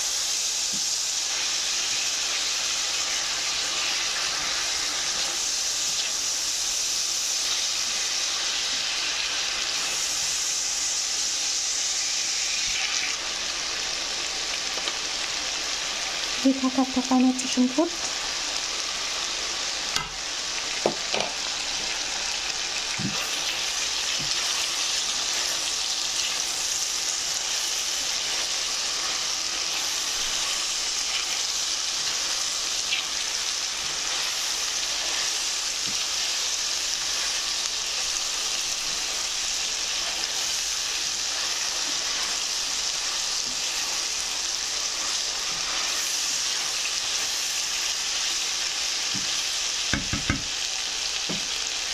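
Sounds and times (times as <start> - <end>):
meat sizzling in a frying pan: 0.0 - 51.9.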